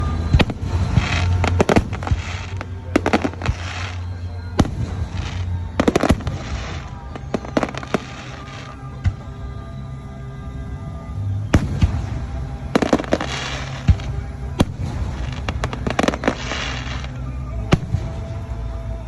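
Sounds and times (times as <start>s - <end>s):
fireworks cracks and bangs: 0.0s - 9.4s, 11.4s - 18.8s
hissing crackle: 0.0s - 19.0s.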